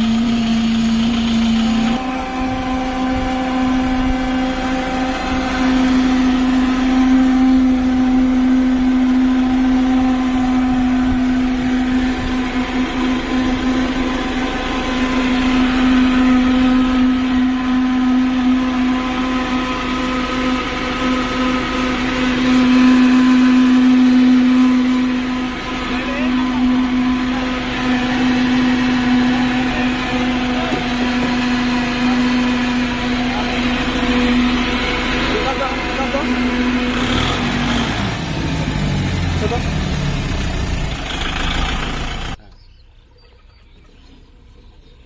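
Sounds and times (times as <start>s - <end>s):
tractor engine droning: 0.0s - 45.0s.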